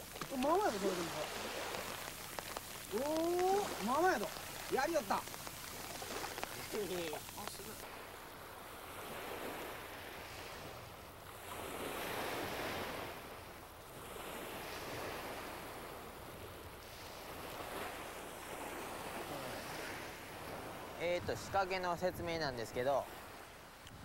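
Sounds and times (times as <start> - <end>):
waves washing on sandy shore: 0.0 - 24.0.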